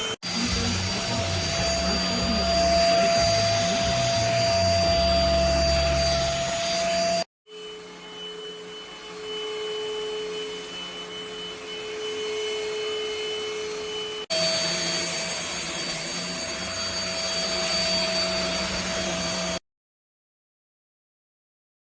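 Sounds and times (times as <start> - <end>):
stick vacuum whining: 0.0 - 19.6.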